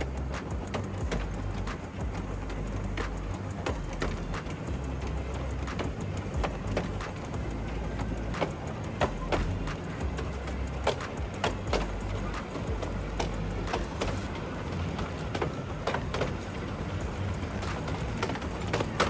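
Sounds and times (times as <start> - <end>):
miniature train rumbling: 0.0 - 19.0
wheels clacking over rails: 0.0 - 19.0.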